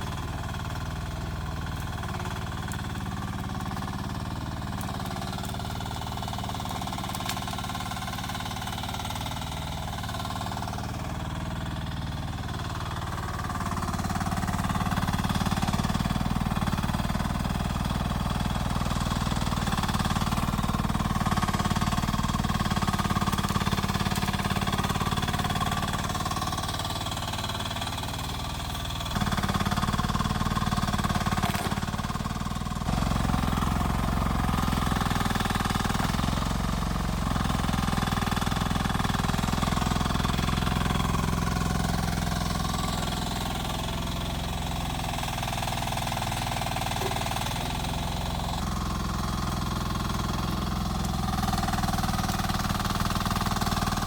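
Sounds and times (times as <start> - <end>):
mini excavator engine running: 0.0 - 54.0.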